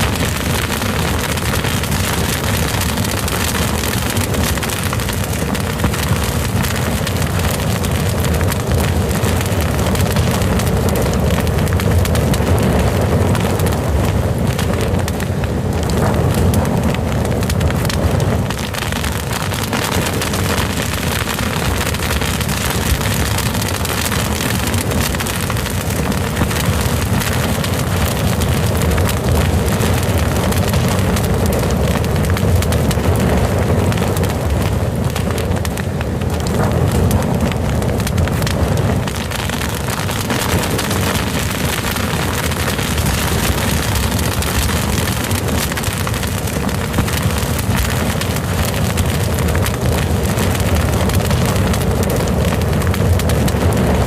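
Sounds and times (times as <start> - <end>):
fire crackling and popping: 0.0 - 54.0
fire rumbling: 0.0 - 54.0.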